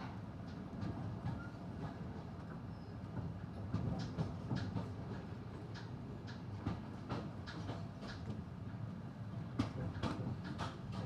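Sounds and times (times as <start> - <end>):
train clicks and rattles: 0.0 - 11.0.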